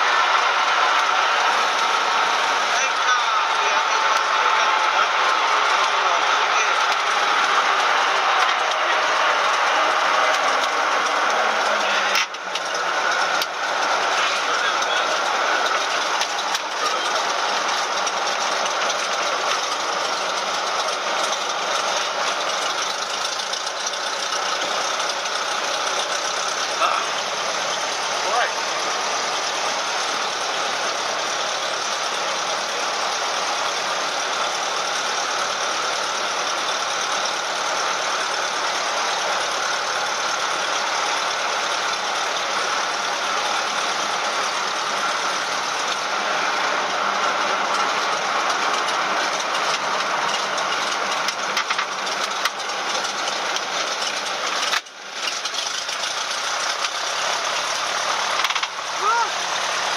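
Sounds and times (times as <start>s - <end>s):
airplane engine and propeller drone: 0.0s - 59.9s.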